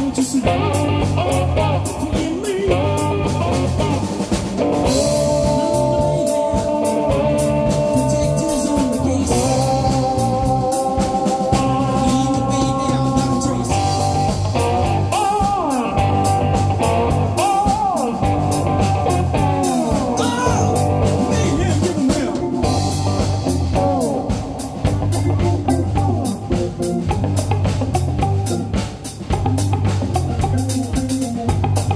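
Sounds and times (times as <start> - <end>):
bass guitar line: 0.0 - 31.9
slide guitar: 0.0 - 31.9
steady drum beat: 0.0 - 31.9.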